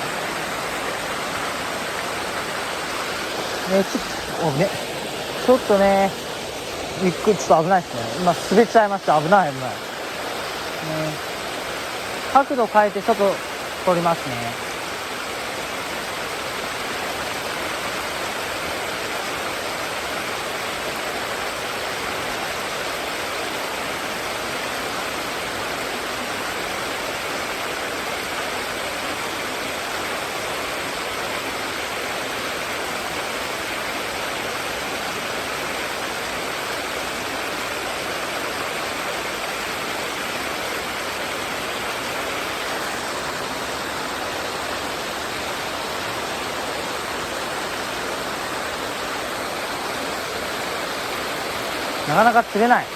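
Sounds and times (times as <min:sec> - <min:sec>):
mountain stream rushing: 0:00.0 - 0:52.9.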